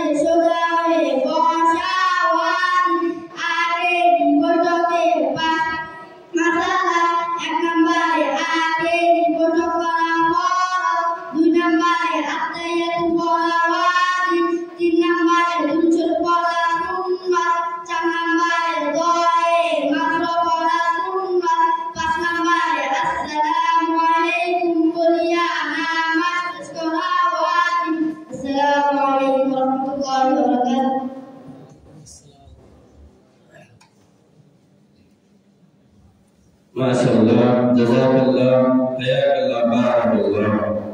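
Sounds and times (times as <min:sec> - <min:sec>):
boys singing unaccompanied: 0:00.0 - 0:32.2, 0:36.8 - 0:40.9.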